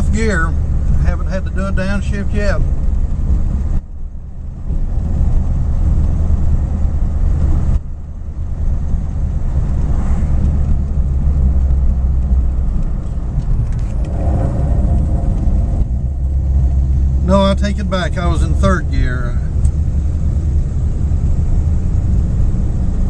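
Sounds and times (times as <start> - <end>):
car engine rumbling from inside cabin: 0.0 - 23.0.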